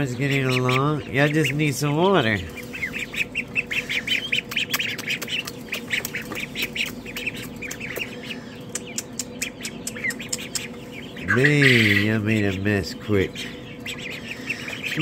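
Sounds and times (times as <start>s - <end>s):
ducklings peeping: 0.0s - 15.0s
faint low hum: 0.0s - 15.0s.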